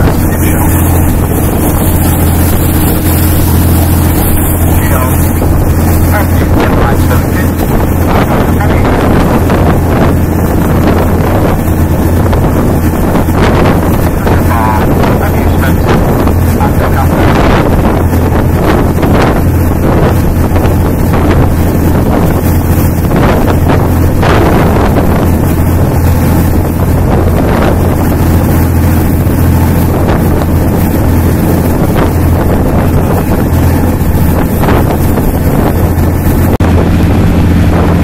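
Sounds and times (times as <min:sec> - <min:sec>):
boat engine drone: 0:00.0 - 0:38.0
water noise: 0:00.0 - 0:38.0
wind on microphone: 0:00.0 - 0:38.0.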